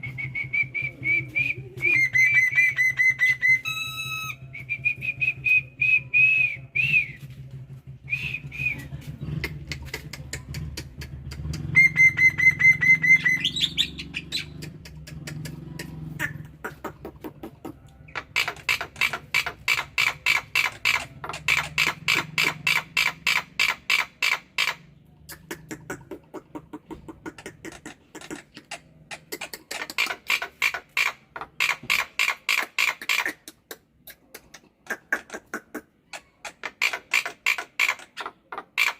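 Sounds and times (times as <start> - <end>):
bird whistling and chattering: 0.0 - 7.2, 8.0 - 38.9.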